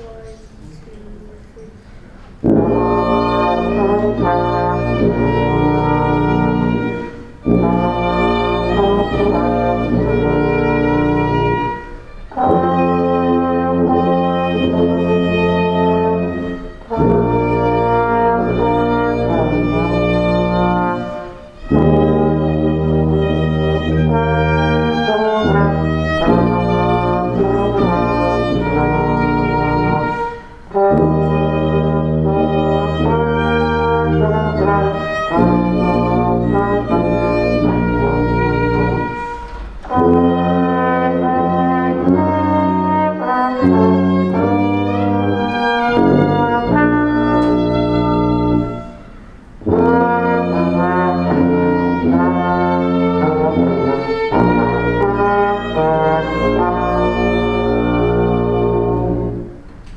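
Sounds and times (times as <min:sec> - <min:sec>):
violin: 0:00.0 - 0:59.9
trombone: 0:02.2 - 0:59.8.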